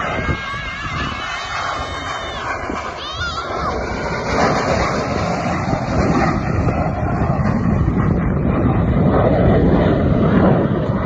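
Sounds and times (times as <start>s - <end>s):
aircraft engine rush: 0.0s - 11.0s.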